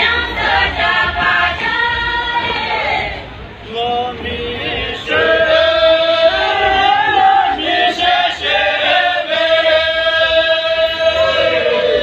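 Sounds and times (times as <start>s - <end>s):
group singing folk song: 0.0s - 12.0s.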